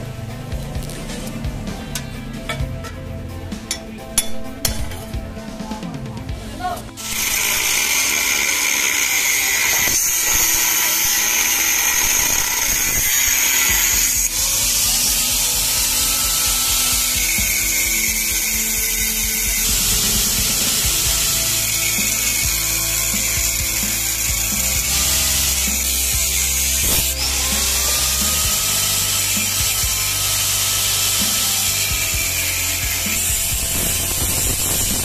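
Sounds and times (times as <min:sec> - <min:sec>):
angle grinder cutting metal: 0:07.0 - 0:35.0.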